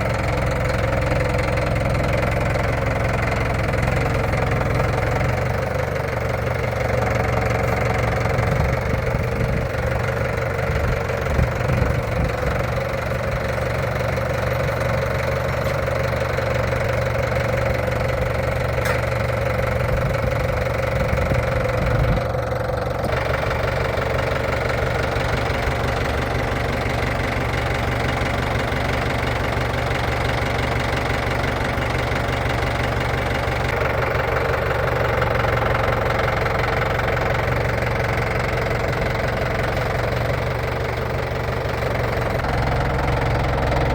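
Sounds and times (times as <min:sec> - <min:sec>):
car engine running at low revs: 0:00.0 - 0:43.9.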